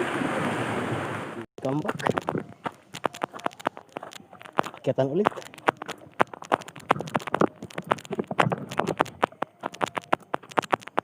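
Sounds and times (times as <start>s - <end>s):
footsteps on loose rock: 1.6s - 11.0s.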